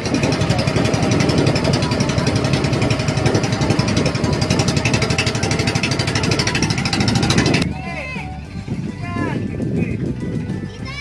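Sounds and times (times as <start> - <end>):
boat engine pulsing: 0.0 - 11.0.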